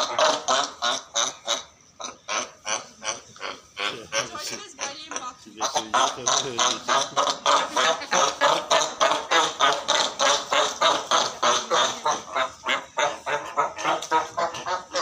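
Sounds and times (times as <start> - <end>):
seals barking: 0.0 - 15.0.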